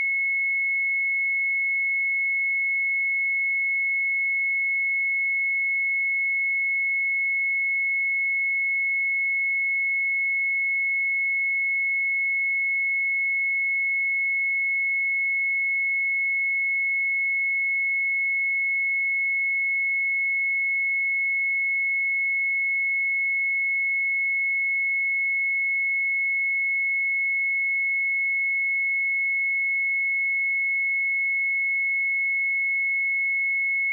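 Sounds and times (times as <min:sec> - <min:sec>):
sine wave test tone: 0:00.0 - 0:33.9.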